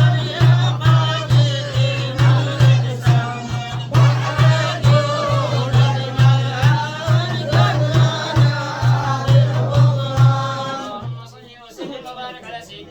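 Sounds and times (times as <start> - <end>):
person singing a chant: 0.0 - 11.2
low drum beat: 0.0 - 11.3.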